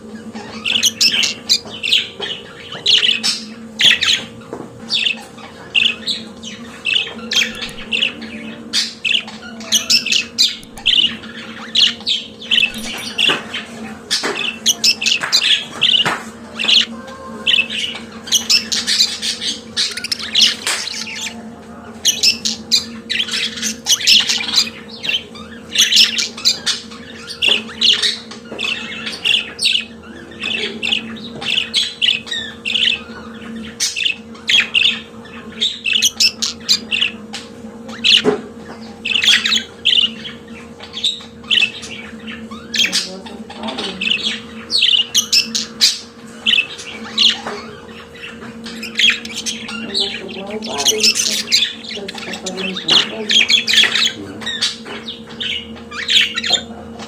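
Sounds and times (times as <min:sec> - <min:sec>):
budgerigars chattering and warbling: 0:00.0 - 0:57.0
steady low hum: 0:00.0 - 0:57.0.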